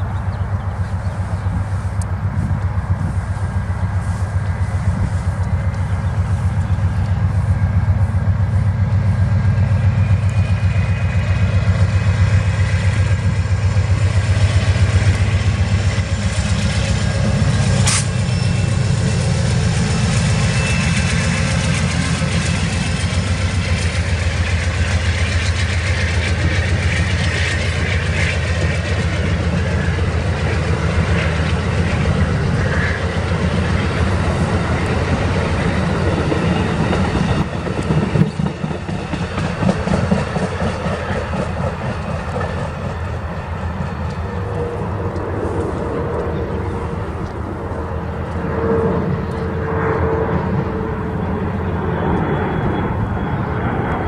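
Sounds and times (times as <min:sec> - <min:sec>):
diesel locomotive engine rumble: 0:00.0 - 0:54.0
train wheel and rail noise: 0:00.0 - 0:54.0.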